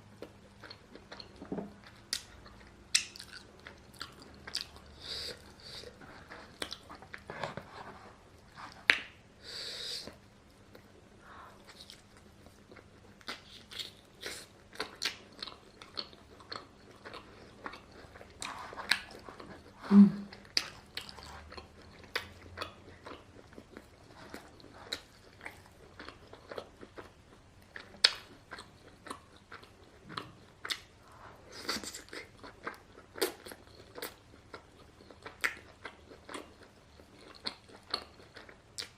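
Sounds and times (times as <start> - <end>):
person chewing food: 0.2 - 9.2, 10.0 - 38.9.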